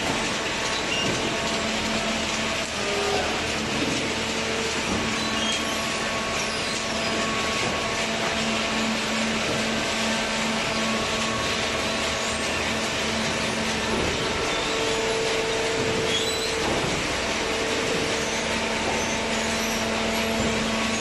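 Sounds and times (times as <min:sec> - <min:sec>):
baler machine humming: 0:00.0 - 0:21.0.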